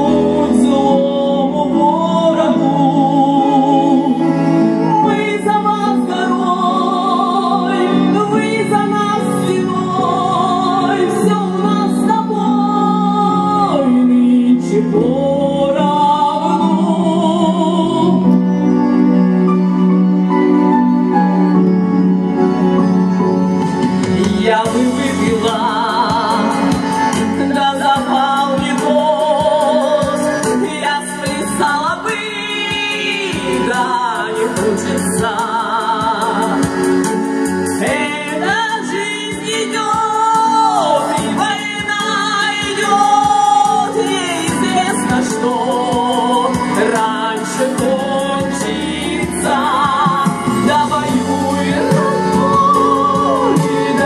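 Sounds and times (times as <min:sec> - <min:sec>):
woman singing into microphone: 0:00.0 - 0:18.7, 0:24.0 - 0:54.0
recorded backing track: 0:00.0 - 0:54.0.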